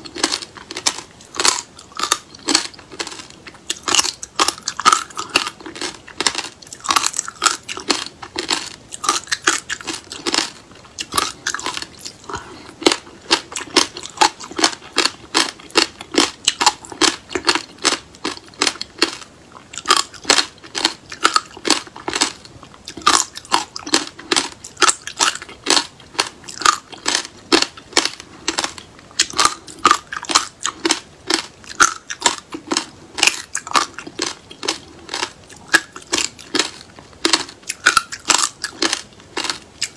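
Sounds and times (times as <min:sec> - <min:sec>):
chewing and crunching seeds: 0:00.0 - 0:39.9.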